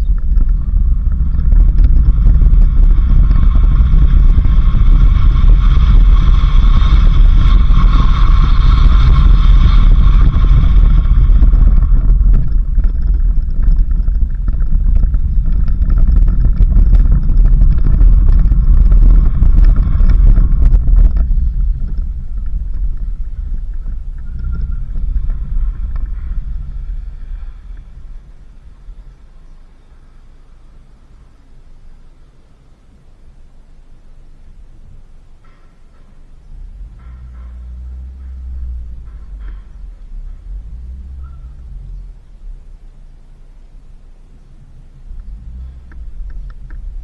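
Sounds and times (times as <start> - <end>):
high steady whining tone: 0.0 - 47.0
vehicle rumbling on dirt road: 0.0 - 47.0.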